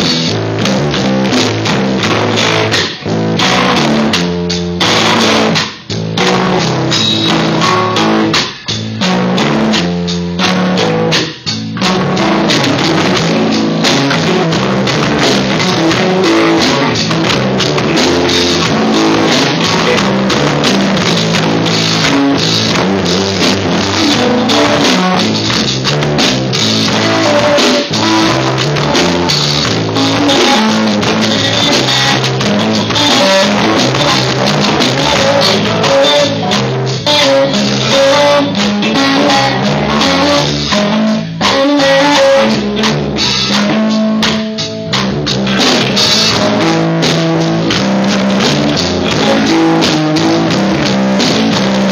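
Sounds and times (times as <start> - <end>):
rock band playing loudly: 0.0 - 51.9.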